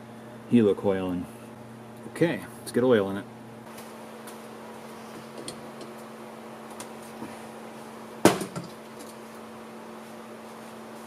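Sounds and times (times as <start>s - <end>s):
shop fan humming: 0.0s - 11.0s.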